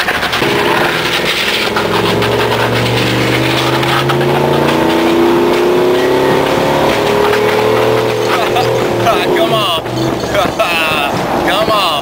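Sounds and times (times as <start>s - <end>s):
metal scraping along road: 0.0s - 12.0s
pickup truck engine accelerating: 0.0s - 12.0s.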